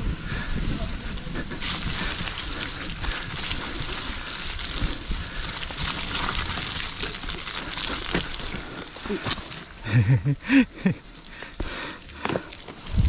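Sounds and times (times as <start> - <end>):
bike tyres through wet mud: 0.0 - 13.0.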